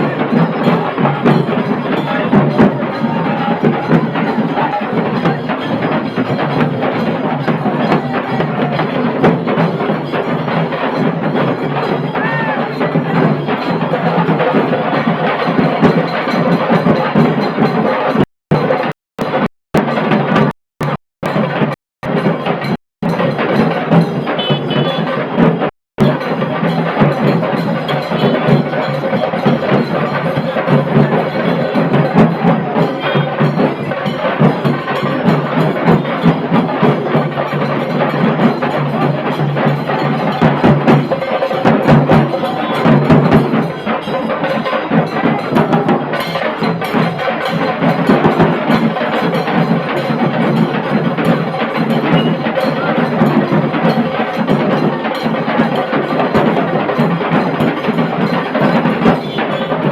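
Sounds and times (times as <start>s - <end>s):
dhol drum: 0.0s - 59.9s.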